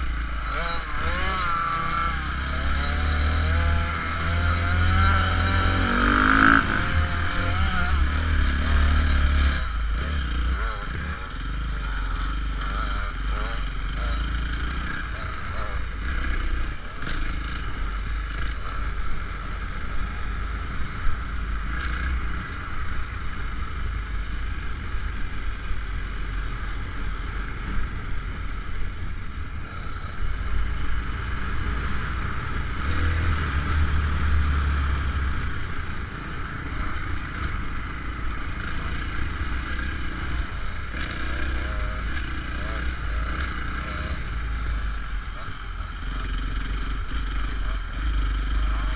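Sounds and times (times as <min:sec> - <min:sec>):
motocross bike engine revving: 0:00.0 - 0:22.8, 0:29.2 - 0:48.9.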